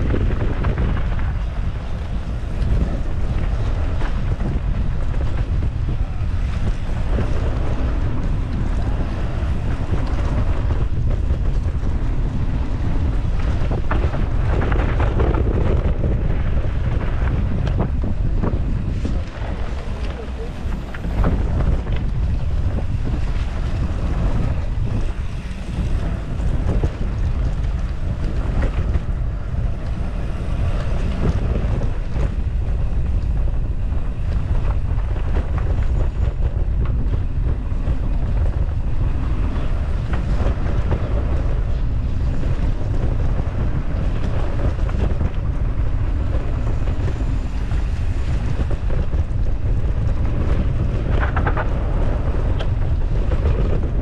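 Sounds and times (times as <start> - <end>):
bike tyres rolling over dirt: 0.0 - 54.0
wind buffeting microphone: 0.0 - 54.0.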